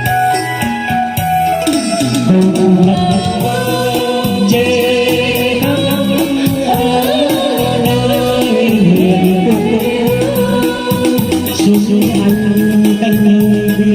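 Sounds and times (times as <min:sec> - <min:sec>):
instrumental accompaniment: 0:00.0 - 0:13.9
folk singing with wavering notes: 0:01.6 - 0:13.9.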